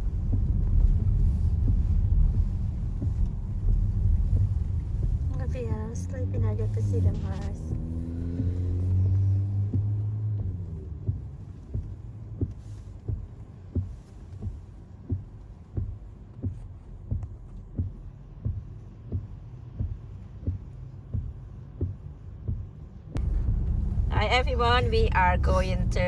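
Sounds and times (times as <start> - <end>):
soft low thumps: 0.0 - 26.0
steady low hum: 0.0 - 26.0.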